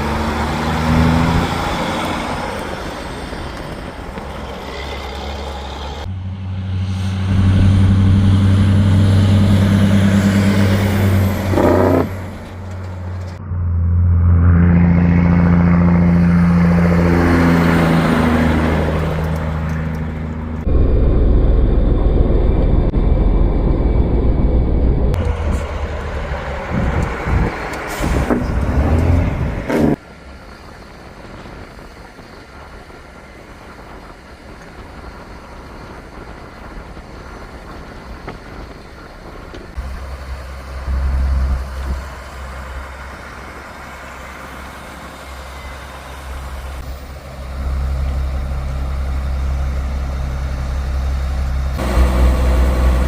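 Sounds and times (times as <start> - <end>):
truck engine rumble: 0.0 - 53.0.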